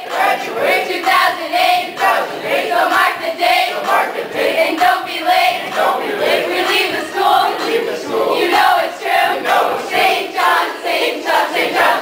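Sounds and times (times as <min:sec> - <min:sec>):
group chanting a rap: 0:00.0 - 0:12.0.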